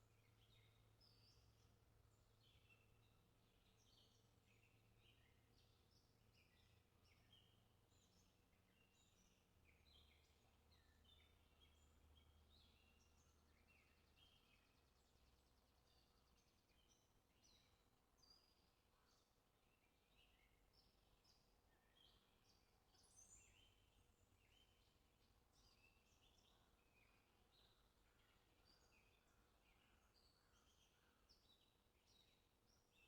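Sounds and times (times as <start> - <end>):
faint bird chirps: 0.0 - 33.0.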